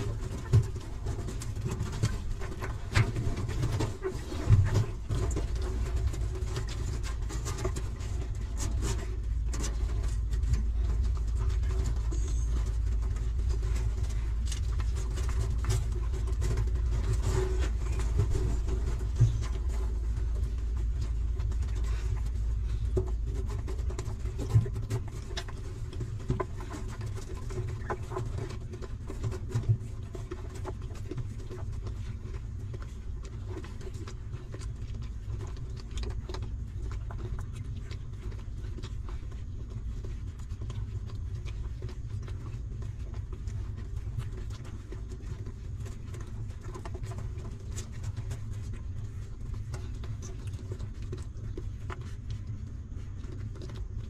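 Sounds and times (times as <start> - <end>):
puppies suckling smacking clicks: 0.0 - 54.0
steady low rumble: 0.0 - 54.0.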